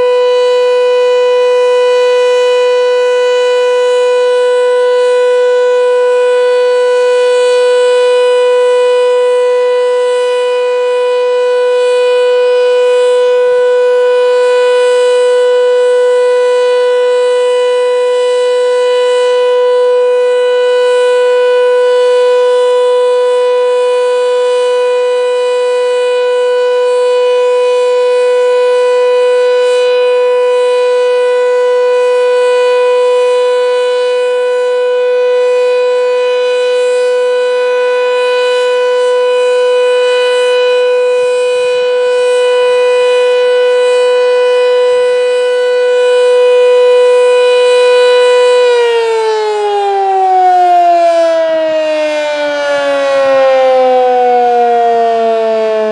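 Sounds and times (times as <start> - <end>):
warning siren steady tone: 0.0 - 55.9.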